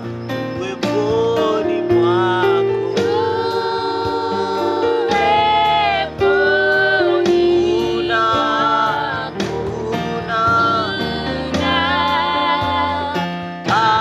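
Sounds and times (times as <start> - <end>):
instrumental accompaniment: 0.0 - 14.0
gospel singing voices: 0.6 - 14.0.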